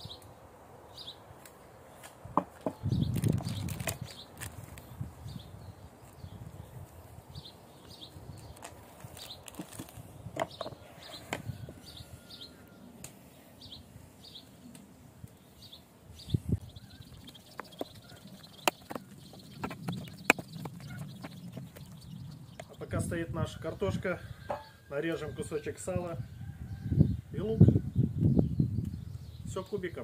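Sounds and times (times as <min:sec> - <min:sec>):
songbird chirping: 0:00.0 - 0:30.0.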